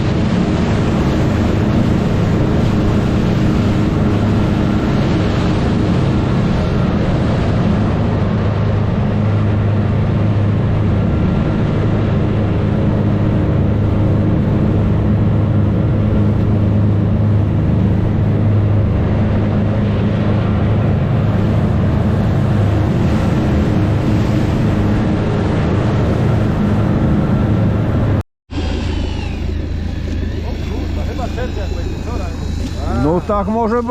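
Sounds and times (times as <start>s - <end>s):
boat engine drone: 0.0s - 33.9s
water noise: 0.0s - 33.9s
wind noise: 0.0s - 33.9s.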